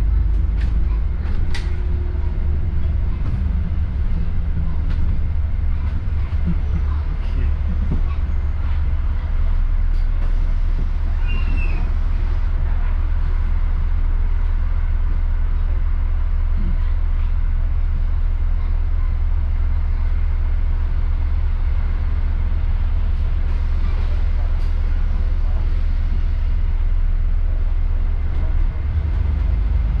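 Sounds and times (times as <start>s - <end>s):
bus engine rumble: 0.0s - 30.0s
road noise: 0.0s - 30.0s.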